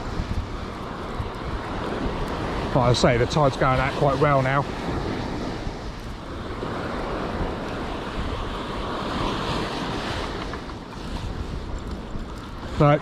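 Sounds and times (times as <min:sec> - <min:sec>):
small waves breaking: 0:00.0 - 0:13.0
wind on microphone: 0:00.0 - 0:13.0.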